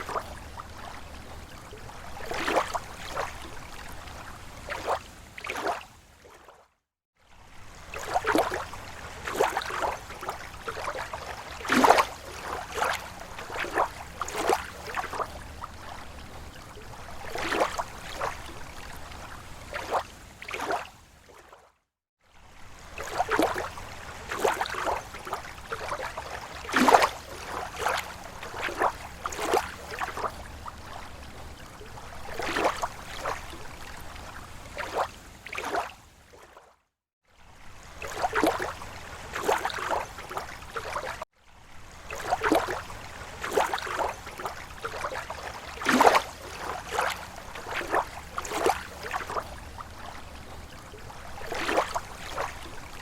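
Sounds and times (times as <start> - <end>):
small waves lapping on shore: 0.0 - 53.0.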